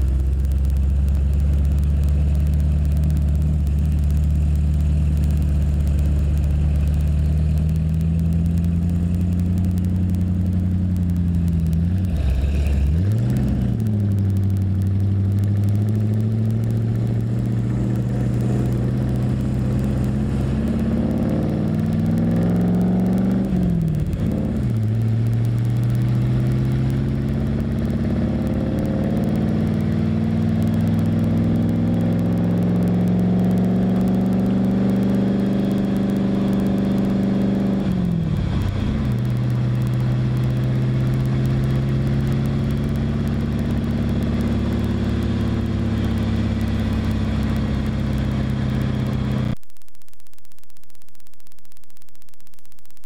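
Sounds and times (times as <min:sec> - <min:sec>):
car engine revving through gears: 0:00.0 - 0:49.6.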